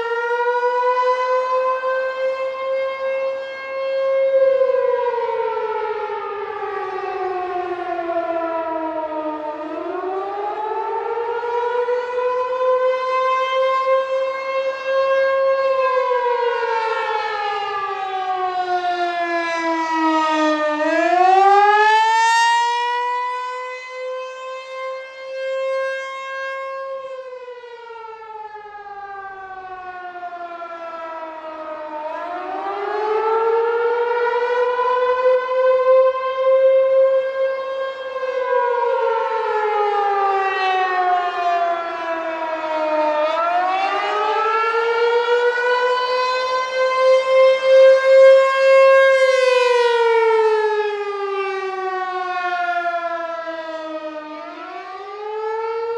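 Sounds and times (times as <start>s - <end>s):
rotating warning siren wailing: 0.0s - 55.9s.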